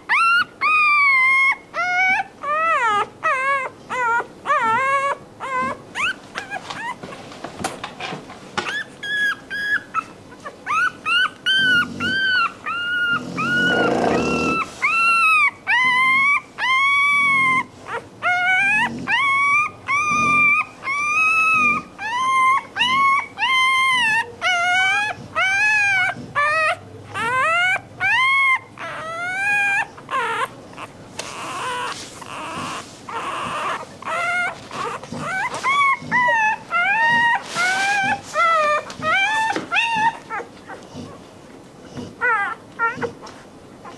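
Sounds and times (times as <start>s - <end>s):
puppy crying with high whines: 0.0s - 7.1s, 8.6s - 43.9s.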